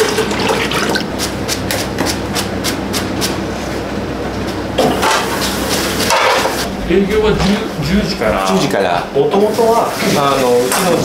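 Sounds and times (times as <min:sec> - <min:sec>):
stove and exhaust hood hum: 0:00.0 - 0:11.0.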